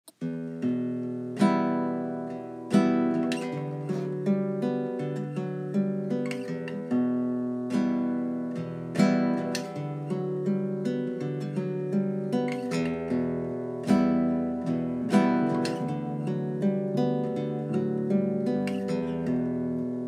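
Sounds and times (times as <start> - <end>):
acoustic guitar strumming chords: 0.1 - 20.0.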